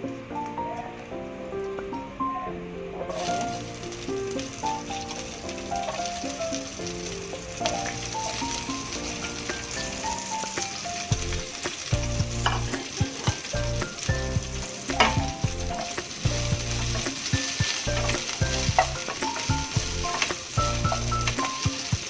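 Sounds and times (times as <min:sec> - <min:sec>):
vegetables sizzling in oil: 0:03.1 - 0:22.0.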